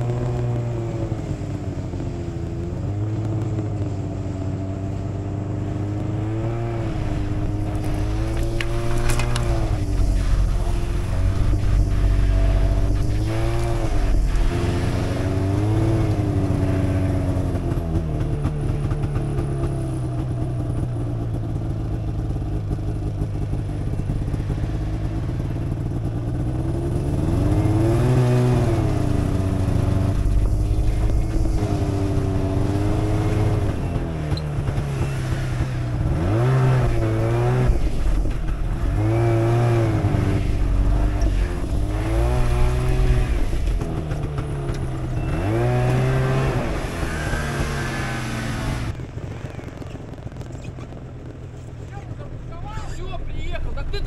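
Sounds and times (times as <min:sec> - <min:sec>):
snowmobile engine revving: 0:00.0 - 0:04.9, 0:05.6 - 0:50.8.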